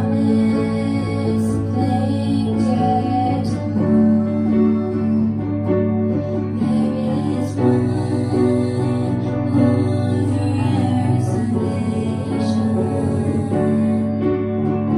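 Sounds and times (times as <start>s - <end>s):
girls singing: 0.0s - 14.9s
instrumental accompaniment: 0.0s - 14.9s.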